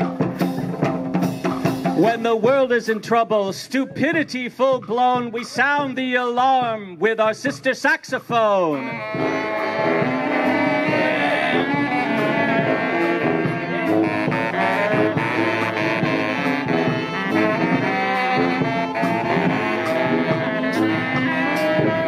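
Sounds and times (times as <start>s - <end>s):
brass band playing lively tune: 0.0s - 22.0s.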